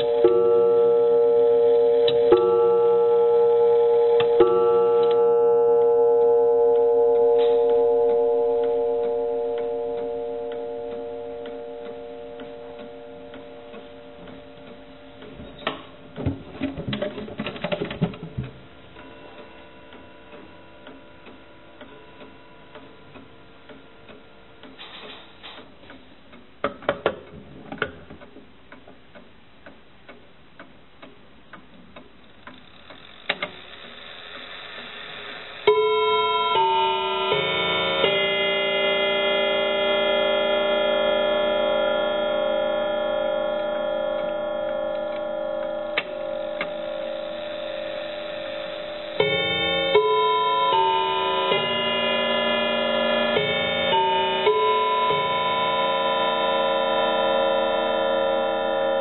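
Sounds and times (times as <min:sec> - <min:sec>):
clock gong ringing: 0:00.0 - 0:17.4, 0:18.4 - 0:24.6, 0:35.2 - 0:59.0
clock ticking: 0:00.0 - 0:59.0.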